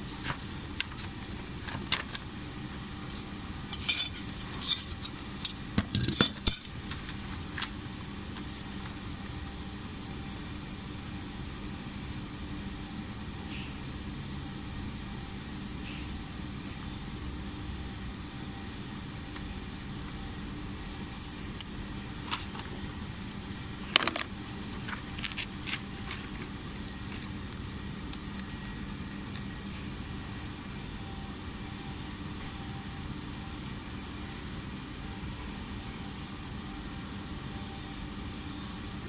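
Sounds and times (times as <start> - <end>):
mechanical hum with hiss: 0.0 - 39.0.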